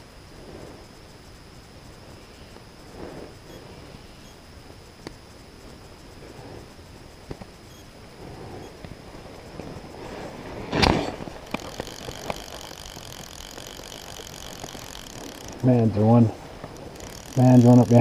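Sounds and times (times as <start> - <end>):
faint ticks: 0.0 - 18.0.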